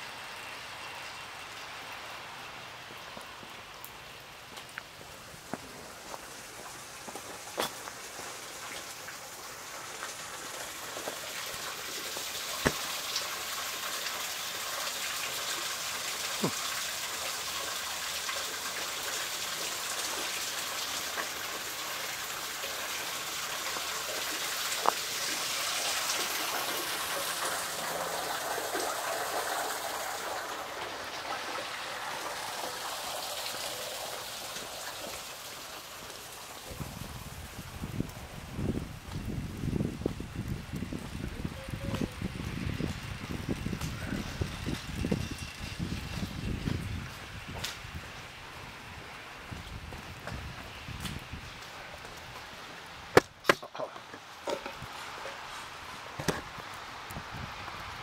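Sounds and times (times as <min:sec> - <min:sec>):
wet snow falling on pavement: 0:00.0 - 0:53.3, 0:54.2 - 0:58.0.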